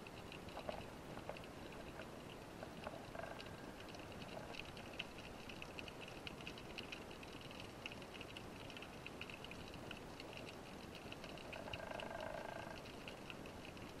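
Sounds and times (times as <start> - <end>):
crackling clicks and ticks: 0.0 - 14.0.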